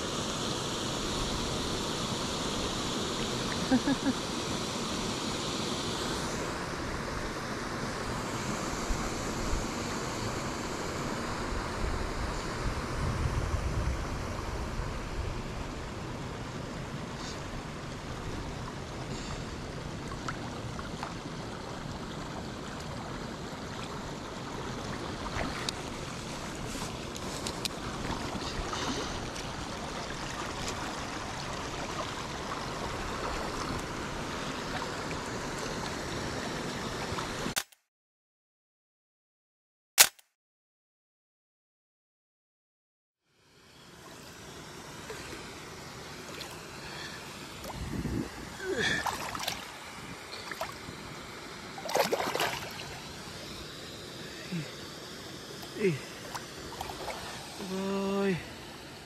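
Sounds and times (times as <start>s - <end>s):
stream water running: 0.0s - 37.6s, 43.4s - 59.0s.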